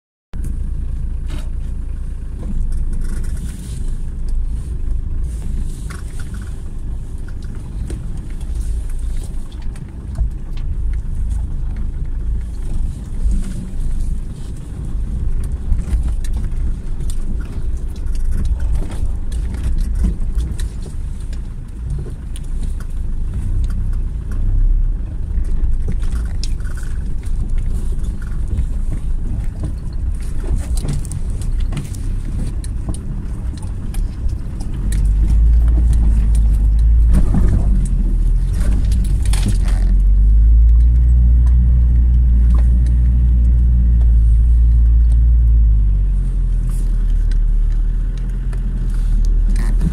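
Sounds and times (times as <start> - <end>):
diesel engine deep rumble: 0.3 - 49.9
water splashing around wheels: 2.1 - 49.9.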